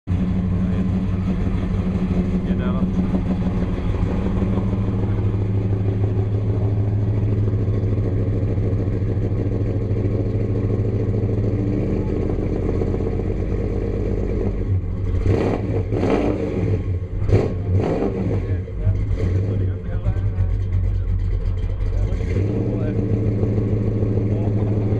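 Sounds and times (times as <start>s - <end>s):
car engine idling: 0.0s - 24.9s
engine throttle blips: 0.0s - 24.9s.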